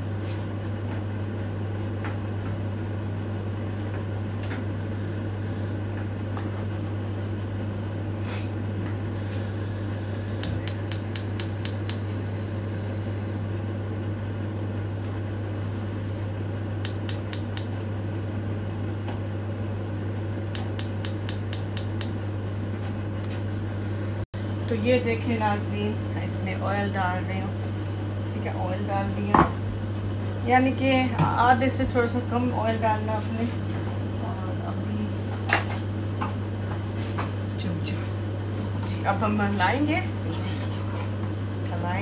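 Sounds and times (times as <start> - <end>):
fan motor humming: 0.0 - 42.0.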